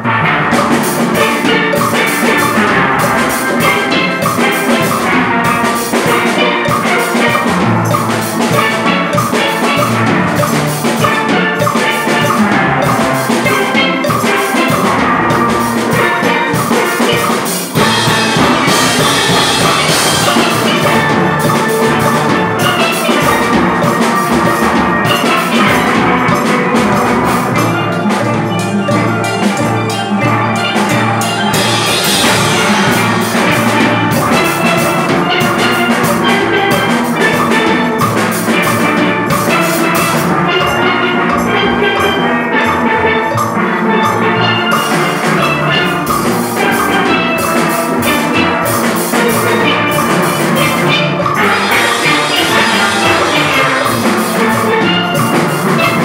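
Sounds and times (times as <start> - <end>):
steelpan orchestra playing: 0.0 - 56.0.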